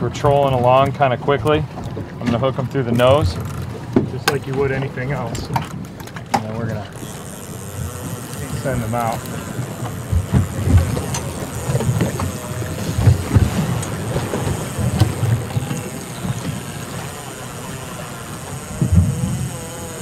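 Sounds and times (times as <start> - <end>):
boat outboard motors running: 0.0 - 20.0
wind buffeting microphone: 0.0 - 20.0.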